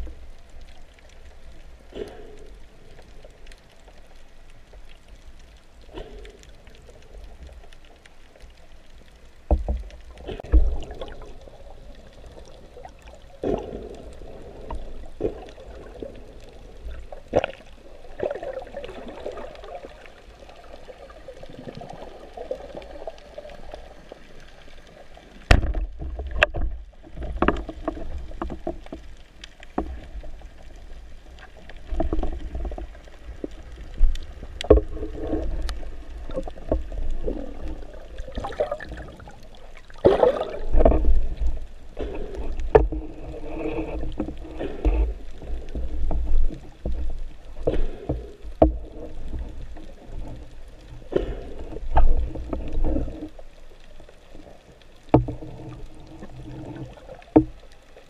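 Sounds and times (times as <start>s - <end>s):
underwater rumbling water: 0.0s - 58.0s.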